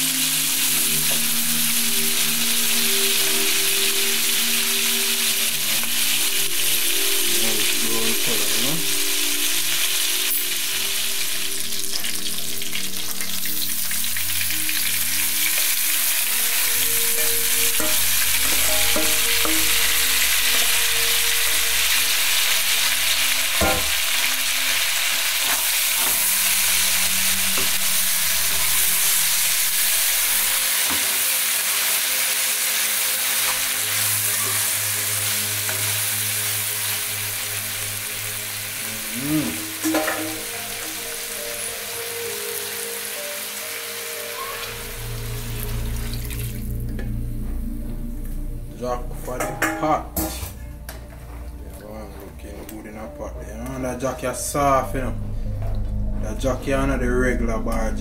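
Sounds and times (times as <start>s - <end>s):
fish frying with sizzle: 0.0s - 47.4s.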